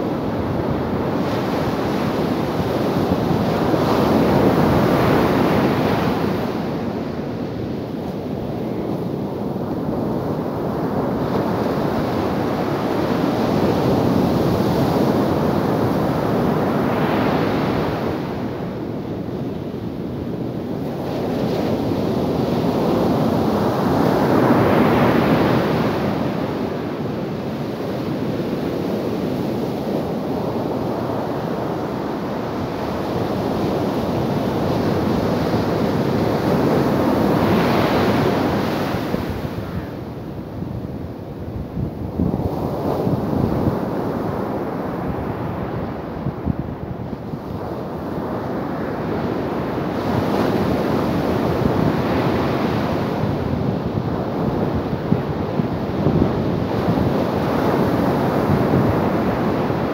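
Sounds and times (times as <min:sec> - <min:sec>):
ocean surf breaking on sand: 0:00.0 - 0:19.1, 0:20.6 - 0:59.9.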